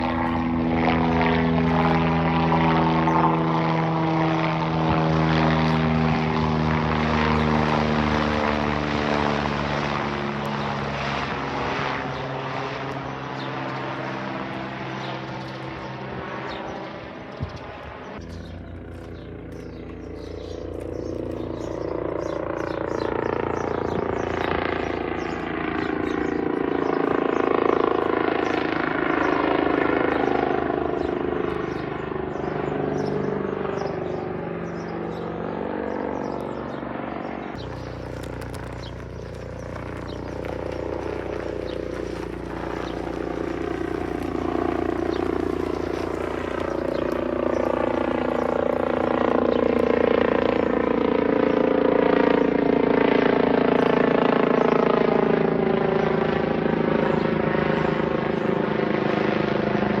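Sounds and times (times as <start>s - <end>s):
helicopter flying past: 0.0s - 60.0s.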